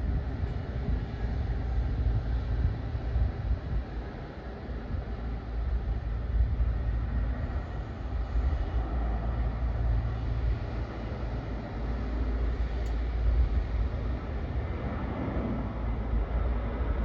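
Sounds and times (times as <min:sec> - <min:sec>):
jet engine rumble with hiss: 0:00.0 - 0:17.0.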